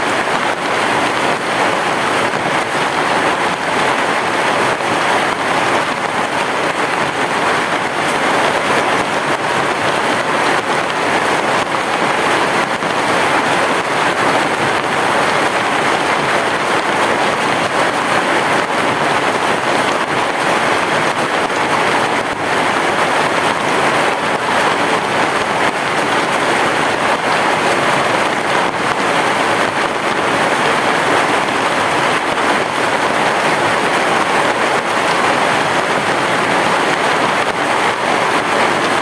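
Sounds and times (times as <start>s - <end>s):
heavy rain on a roof: 0.0s - 39.0s.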